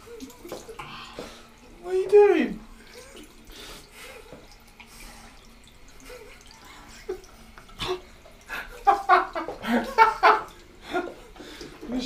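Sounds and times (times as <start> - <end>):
tap water trickling into sink: 0.0 - 12.0.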